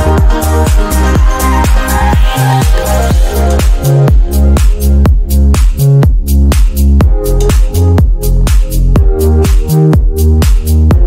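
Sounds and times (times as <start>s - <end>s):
electronic dance music: 0.0s - 11.0s
kick drum: 0.0s - 11.0s
synth bassline: 0.0s - 11.0s.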